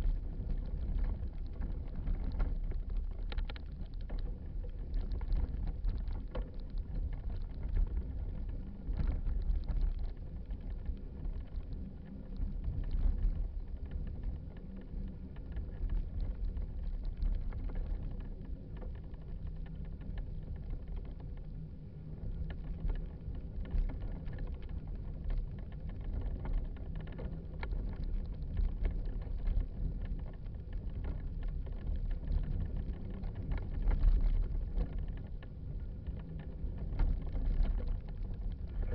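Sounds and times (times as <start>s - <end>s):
wind rumble: 0.0s - 38.9s.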